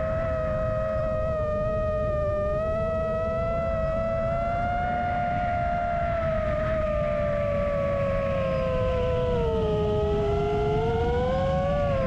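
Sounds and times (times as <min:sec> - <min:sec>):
drone propellers whining: 0:00.0 - 0:12.0
low wind rumble: 0:00.0 - 0:12.0.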